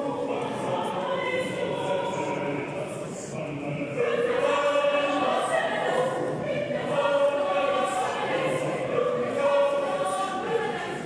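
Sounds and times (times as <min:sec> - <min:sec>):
choir singing in harmony: 0:00.0 - 0:11.0.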